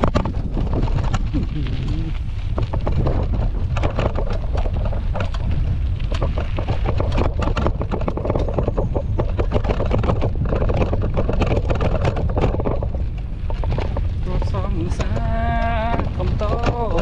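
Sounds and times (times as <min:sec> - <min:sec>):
quad bike engine rumble: 0:00.0 - 0:17.0
stones clicking under tyres: 0:00.0 - 0:17.0
wind on microphone: 0:00.0 - 0:17.0.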